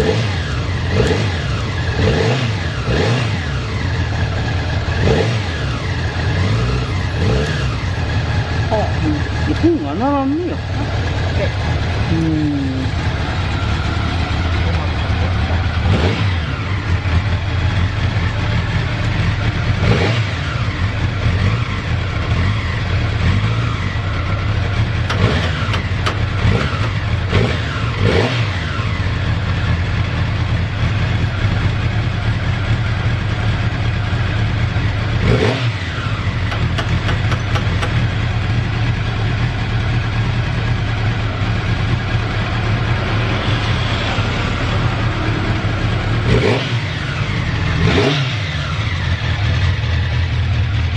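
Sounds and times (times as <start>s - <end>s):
motorcycle engine idling and revving: 0.0s - 50.9s.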